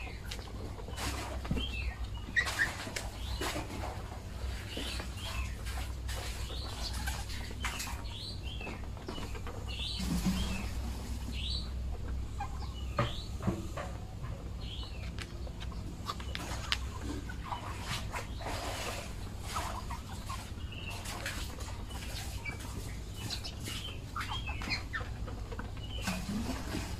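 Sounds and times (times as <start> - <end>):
duck bills tapping at feed: 0.0 - 26.7.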